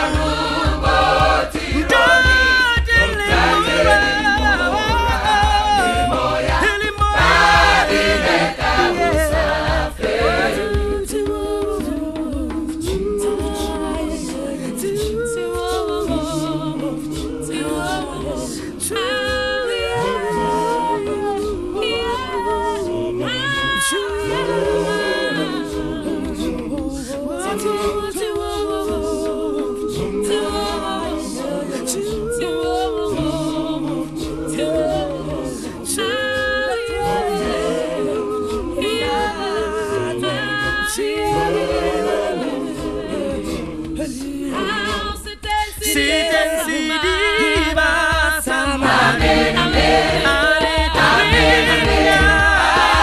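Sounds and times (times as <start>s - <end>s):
a cappella group singing harmony: 0.0s - 53.0s.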